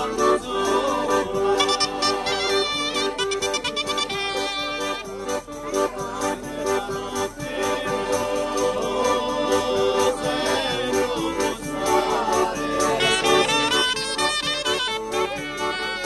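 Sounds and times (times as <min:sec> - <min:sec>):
accordion chords and melody: 0:00.0 - 0:16.0
tambourine jingling rhythm: 0:00.0 - 0:16.0.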